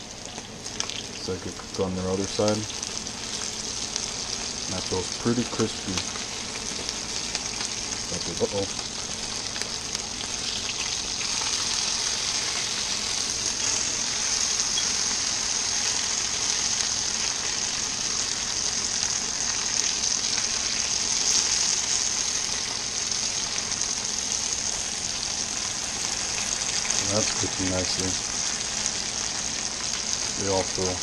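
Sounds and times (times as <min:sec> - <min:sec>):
fish frying in oil: 0:00.0 - 0:31.0.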